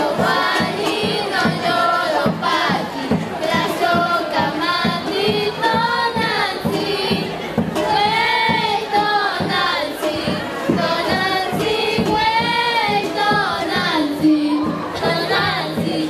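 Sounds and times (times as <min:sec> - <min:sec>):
high singing voice: 0:00.0 - 0:16.0.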